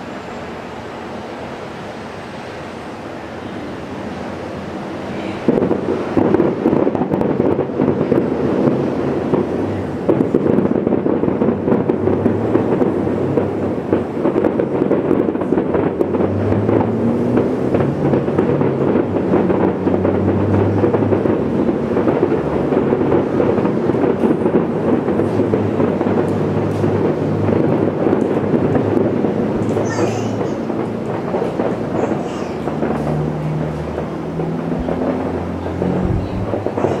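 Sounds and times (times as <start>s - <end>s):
distant fireworks booming: 0.0s - 37.0s.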